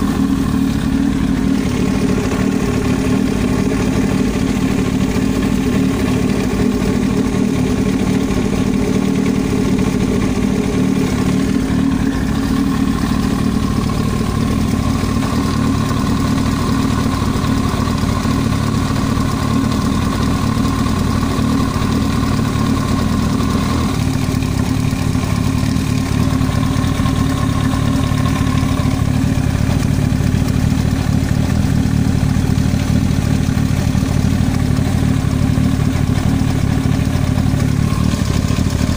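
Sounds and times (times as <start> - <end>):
engine knock: 0.0 - 38.9
motorcycle engine idling: 0.0 - 38.9.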